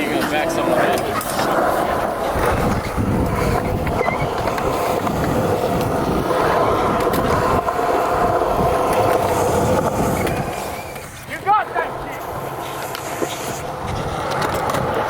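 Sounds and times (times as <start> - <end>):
bike drivetrain whirring: 0.0 - 15.0.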